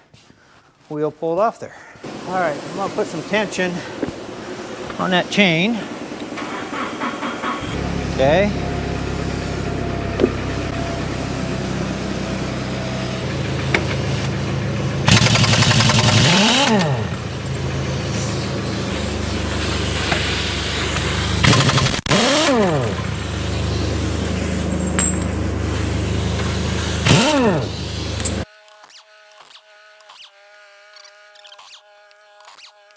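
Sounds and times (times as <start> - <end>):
forklift engine revving: 2.1 - 28.5.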